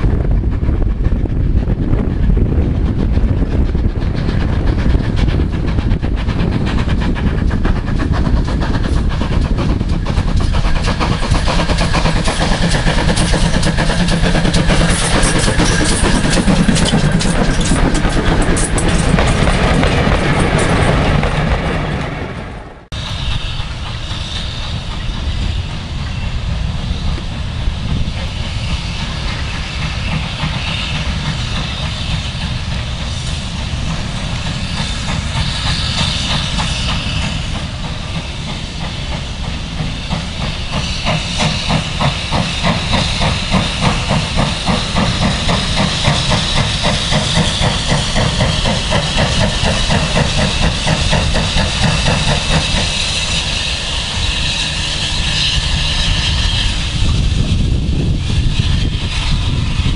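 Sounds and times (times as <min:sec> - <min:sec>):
rhythmic locomotive beating: 0:00.0 - 0:59.9
steam locomotive hissing: 0:00.0 - 0:59.9.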